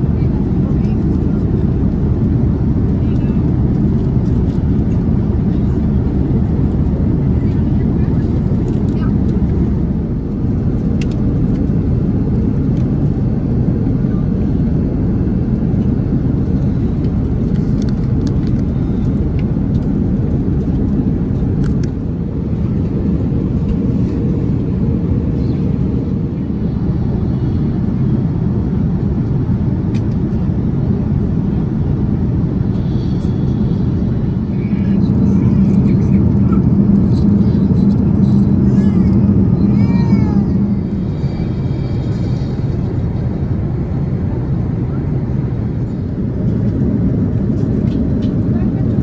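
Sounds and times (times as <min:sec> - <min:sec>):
airliner cabin engine rumble: 0:00.0 - 0:49.0.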